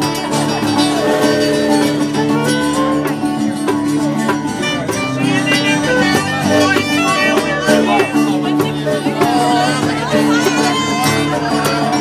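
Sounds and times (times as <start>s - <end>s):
strummed acoustic guitars: 0.0s - 12.0s.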